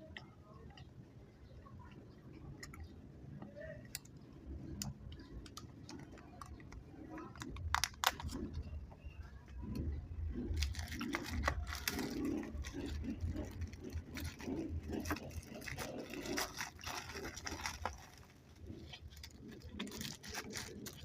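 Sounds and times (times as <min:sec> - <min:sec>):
chewing candy: 0:03.9 - 0:21.0.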